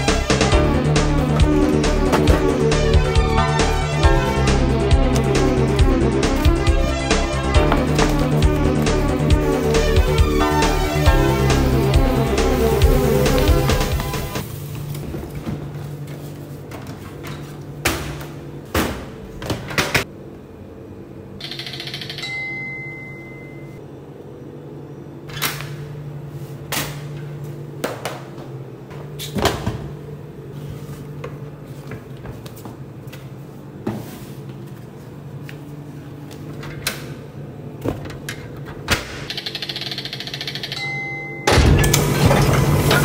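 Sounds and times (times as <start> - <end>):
vending machine hum: 0.0 - 43.0.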